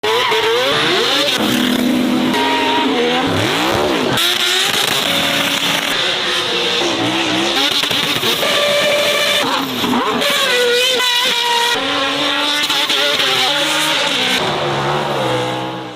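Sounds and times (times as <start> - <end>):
racing car engines revving: 0.0 - 15.9.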